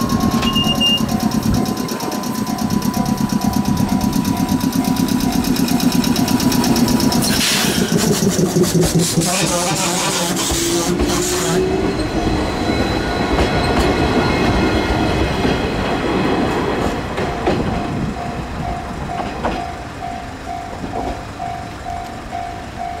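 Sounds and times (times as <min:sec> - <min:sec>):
level-crossing warning bell: 0:00.0 - 0:08.5, 0:10.3 - 0:23.0
electric train pulling away: 0:00.0 - 0:23.0.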